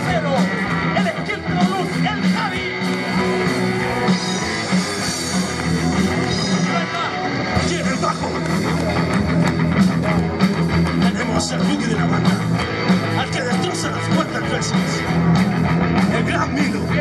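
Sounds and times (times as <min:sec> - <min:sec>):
rock band playing loud riff: 0:00.0 - 0:17.0.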